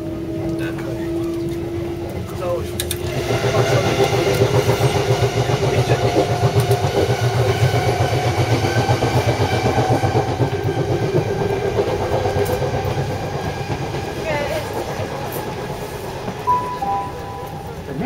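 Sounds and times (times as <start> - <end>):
train wheels rattling rumble: 0.0 - 18.0
steady tones: 2.6 - 18.0.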